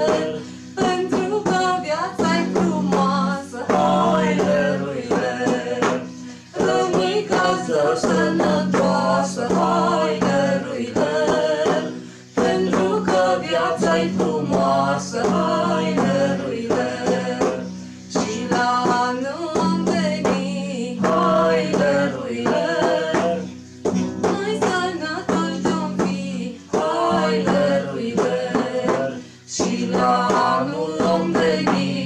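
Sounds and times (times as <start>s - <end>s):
man and woman singing a carol: 0.0s - 32.0s
strummed acoustic guitar: 0.0s - 32.0s.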